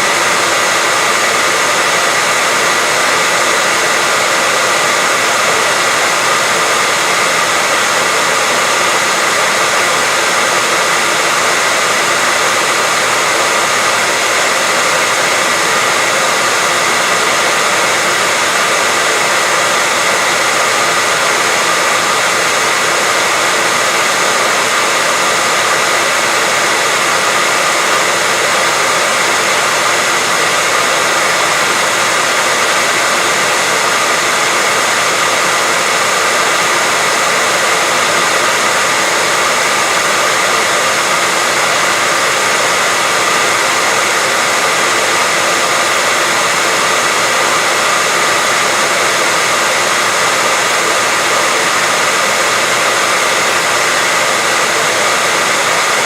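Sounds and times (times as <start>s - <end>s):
loud white noise hiss: 0.0s - 56.0s.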